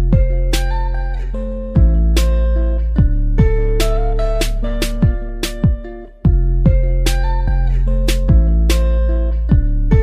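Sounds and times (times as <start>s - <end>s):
guitar-led music with drums: 0.0s - 10.0s.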